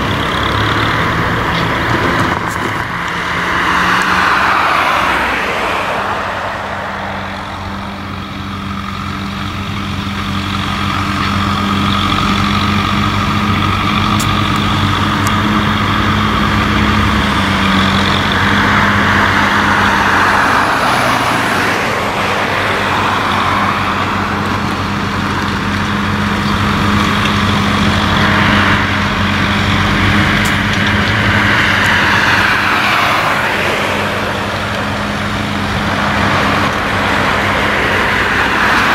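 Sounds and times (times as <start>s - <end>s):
tractor diesel engine hum: 0.0s - 38.9s.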